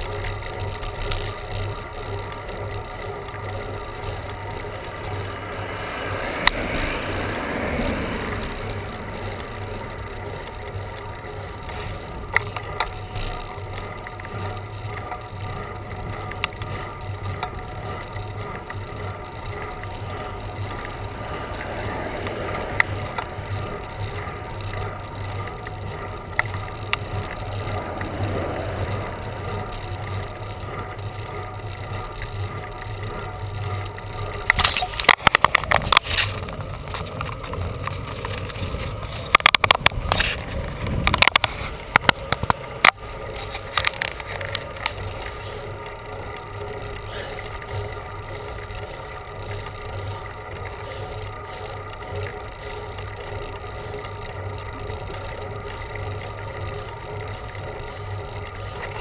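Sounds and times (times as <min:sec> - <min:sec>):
bicycle clicks and rattles: 0:00.0 - 0:59.0
wind and road noise: 0:00.0 - 0:59.0.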